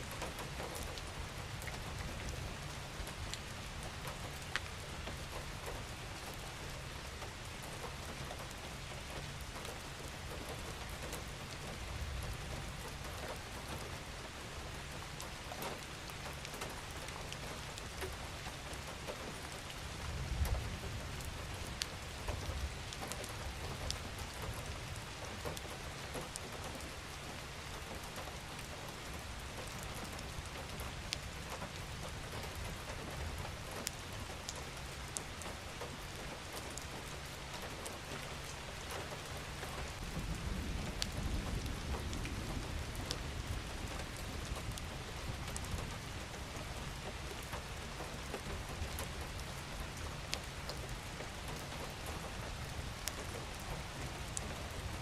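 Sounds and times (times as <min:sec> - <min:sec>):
steady rain falling: 0:00.0 - 0:55.0
raindrop ticks: 0:00.1 - 0:55.0.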